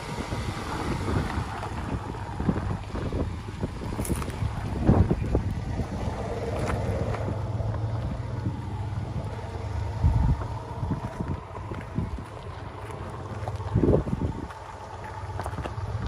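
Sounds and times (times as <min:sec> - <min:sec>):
low engine rumble: 0:00.0 - 0:16.0
wind buffeting microphone: 0:00.0 - 0:16.0
tyres crunching over stones: 0:00.7 - 0:16.0.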